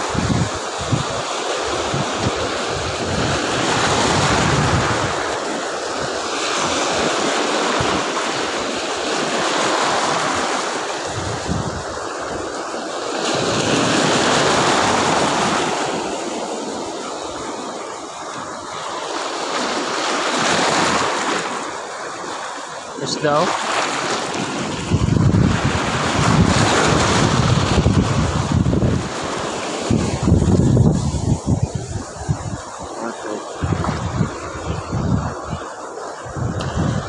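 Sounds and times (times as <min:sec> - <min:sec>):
surf breaking on a beach: 0:00.0 - 0:37.0
wind buffeting microphone: 0:00.0 - 0:37.0.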